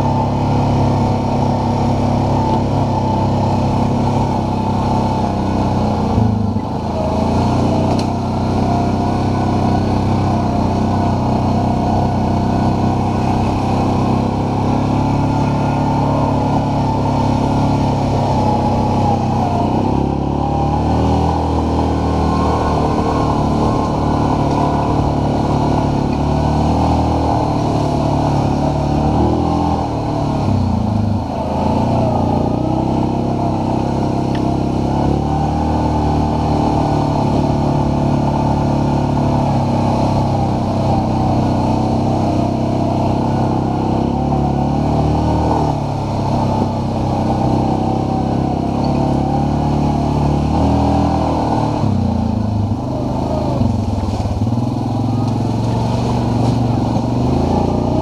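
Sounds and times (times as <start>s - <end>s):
atv engine running: 0.0s - 58.0s
steady rush of noise: 0.0s - 58.0s.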